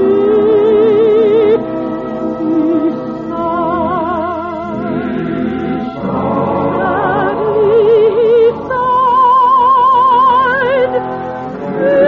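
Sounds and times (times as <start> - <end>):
operetta singing with accompaniment: 0.0 - 12.0.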